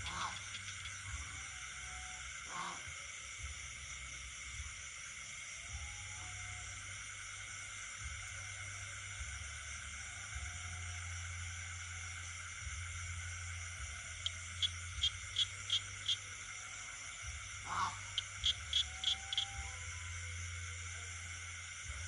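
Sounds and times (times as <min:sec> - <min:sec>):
insects and frogs trilling: 0:00.0 - 0:22.0.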